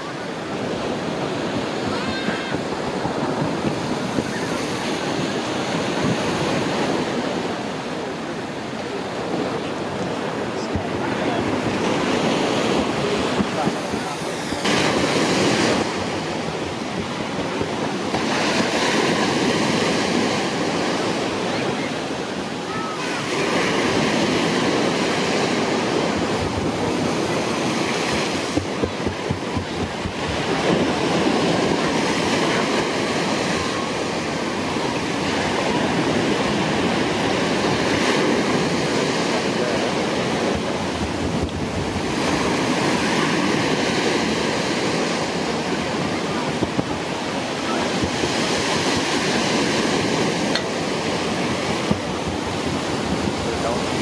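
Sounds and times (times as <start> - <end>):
rushing water: 0.0 - 54.0
wind buffeting microphone: 0.0 - 54.0.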